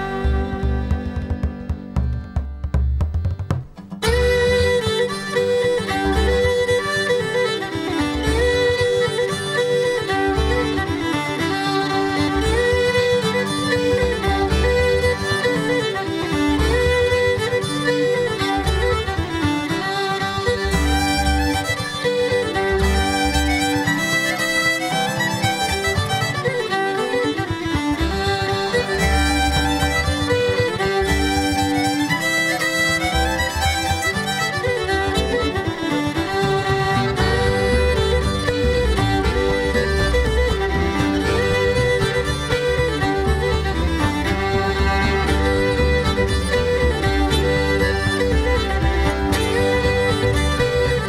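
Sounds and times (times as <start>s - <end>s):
folk fiddle tune: 0.0s - 51.0s.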